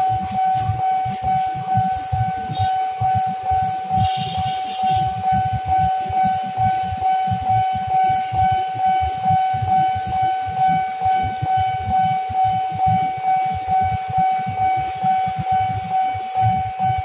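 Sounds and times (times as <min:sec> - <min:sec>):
level crossing warning alarm: 0:00.0 - 0:17.0.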